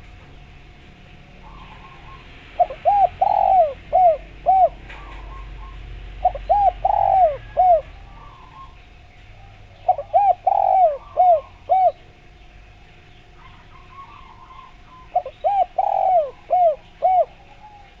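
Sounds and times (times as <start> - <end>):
dove cooing: 1.4 - 12.4, 13.3 - 18.0.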